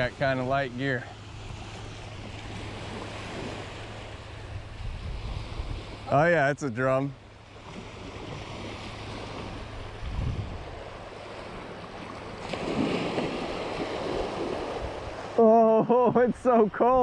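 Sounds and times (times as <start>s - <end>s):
wind buffeting microphone: 0.0s - 6.4s, 7.7s - 15.4s
surf waves washing on sand: 0.0s - 17.0s.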